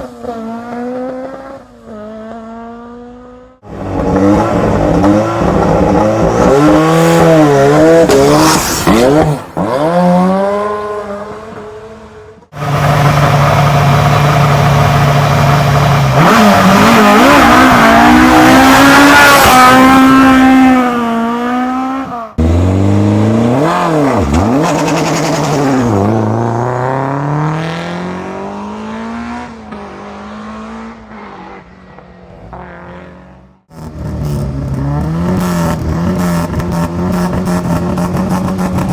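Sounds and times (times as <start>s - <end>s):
rally cars revving and launching: 0.0s - 38.9s.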